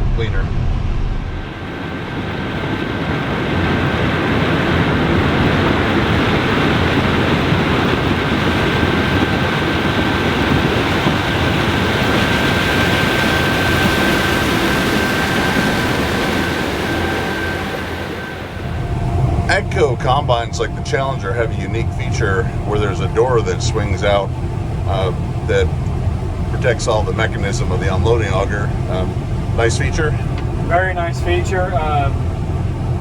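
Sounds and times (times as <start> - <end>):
combine harvester running: 0.0 - 33.0.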